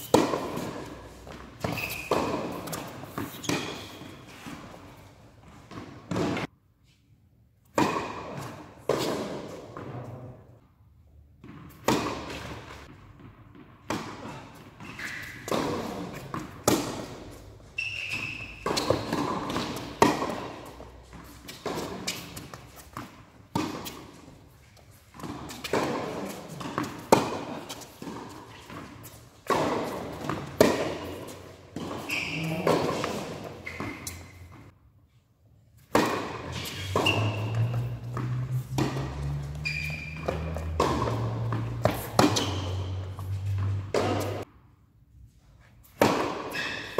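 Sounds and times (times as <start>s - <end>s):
tennis ball strikes off rackets: 0.0s - 4.6s, 5.6s - 6.5s, 7.7s - 9.9s, 11.4s - 14.4s, 15.0s - 24.3s, 25.1s - 34.6s, 35.8s - 44.5s, 45.9s - 46.9s
tennis ball bouncing on court: 0.0s - 6.5s, 7.6s - 10.1s, 11.3s - 34.7s, 35.8s - 44.6s, 45.9s - 46.9s.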